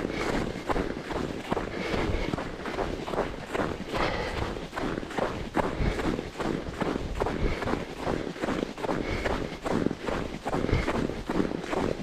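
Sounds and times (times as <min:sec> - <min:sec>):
runner's footfalls: 0:00.0 - 0:12.0
wind rumble on microphone: 0:00.0 - 0:12.0.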